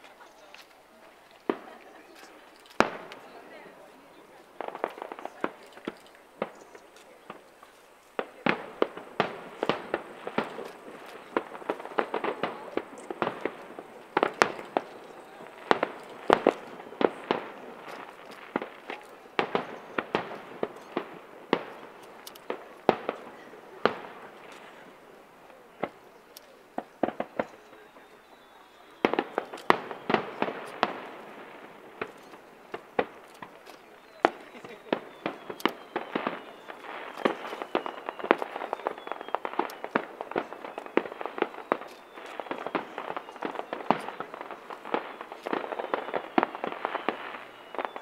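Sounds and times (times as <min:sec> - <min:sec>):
fireworks bangs and cracks: 0:00.0 - 0:48.0.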